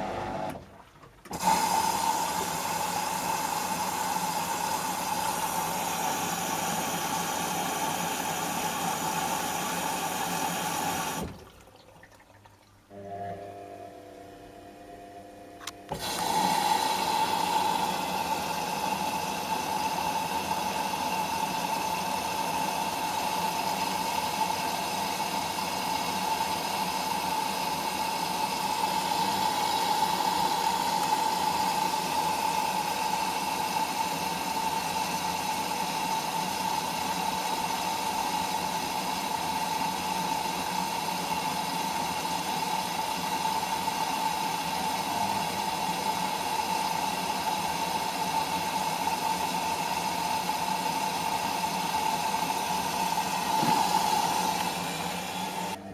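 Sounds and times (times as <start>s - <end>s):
washing machine filling with water: 0.0s - 13.4s, 15.9s - 55.9s.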